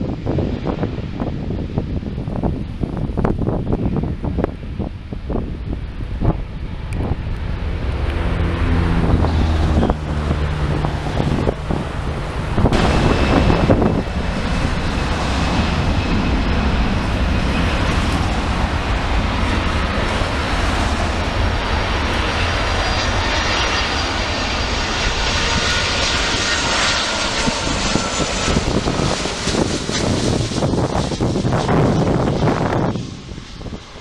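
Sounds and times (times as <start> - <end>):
high engine whine: 0.0 - 34.0
jet engines roaring: 0.0 - 34.0.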